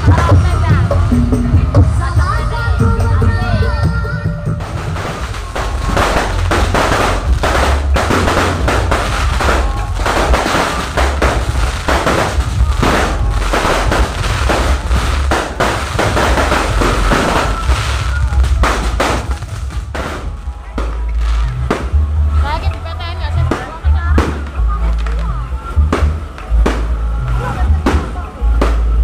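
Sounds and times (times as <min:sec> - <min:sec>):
firework bangs and crackles: 0:00.0 - 0:02.8, 0:03.5 - 0:29.0
deep bass from sound system: 0:00.0 - 0:29.0.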